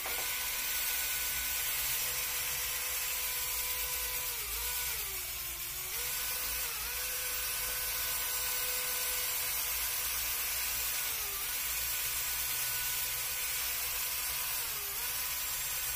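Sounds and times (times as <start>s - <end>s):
electric motor whining: 0.0s - 10.0s, 10.8s - 15.9s.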